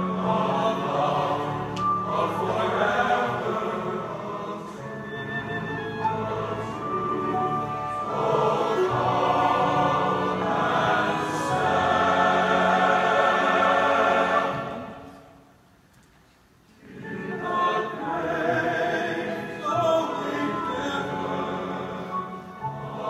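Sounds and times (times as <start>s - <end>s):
men's chorus singing: 0.0s - 15.2s, 16.8s - 23.0s.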